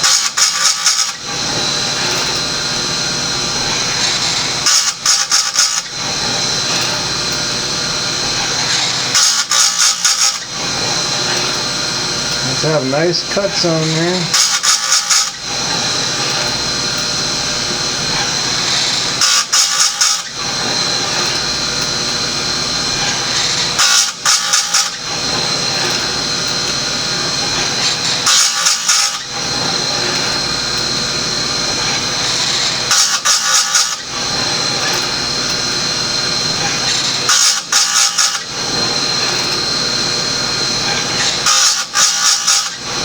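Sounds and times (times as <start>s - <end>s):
chainsaw sharpener whining: 0.0s - 43.0s.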